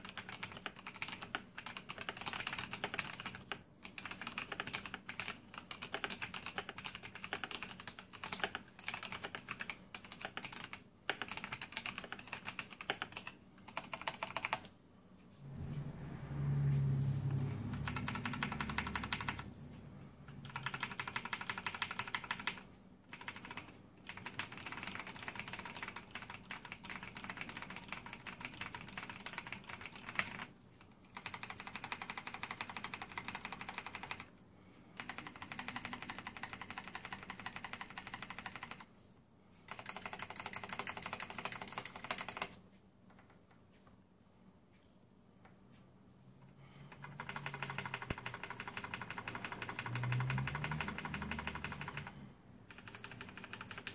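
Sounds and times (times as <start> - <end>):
fast typing on mechanical keyboard: 0.0 - 14.7, 17.7 - 19.5, 20.3 - 34.3, 35.0 - 38.9, 39.7 - 42.6, 46.9 - 53.9.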